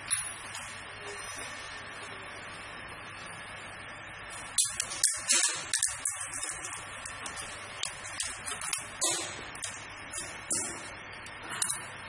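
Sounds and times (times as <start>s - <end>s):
steady low machine hum: 0.0s - 12.0s.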